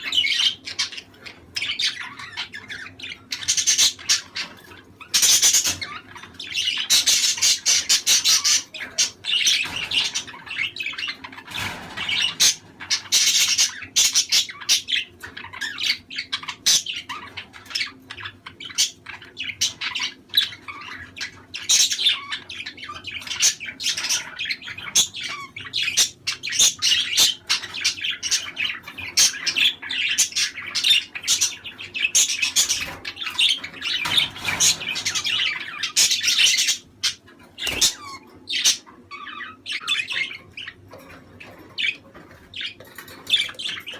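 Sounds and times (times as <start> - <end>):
budgerigars chirping and squawking: 0.0 - 43.9.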